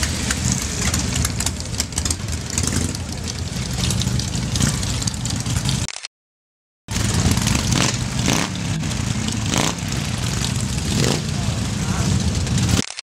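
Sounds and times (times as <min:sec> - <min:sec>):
motorcycle engines idling: 0:00.0 - 0:05.8, 0:06.9 - 0:12.8.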